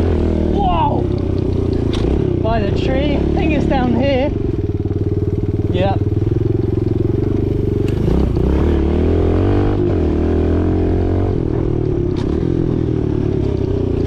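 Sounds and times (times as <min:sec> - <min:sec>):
motorbike engine under throttle: 0:00.0 - 0:14.0.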